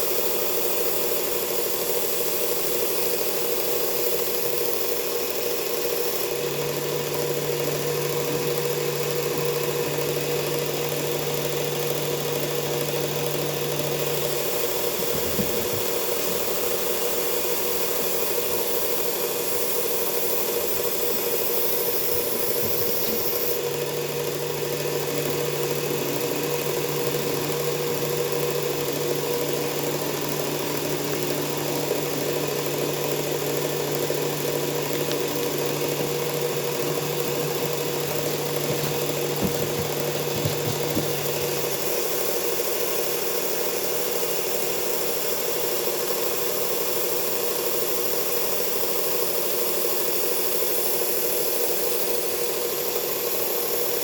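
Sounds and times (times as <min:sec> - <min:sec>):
belt sharpener running: 0:00.0 - 0:54.0.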